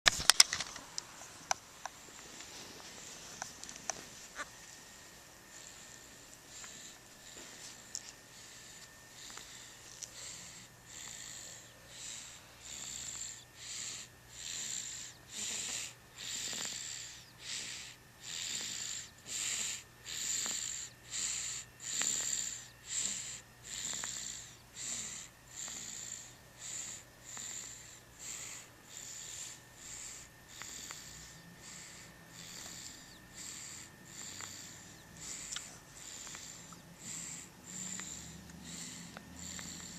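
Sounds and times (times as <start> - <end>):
wheezy nasal snoring: 4.4 - 39.9.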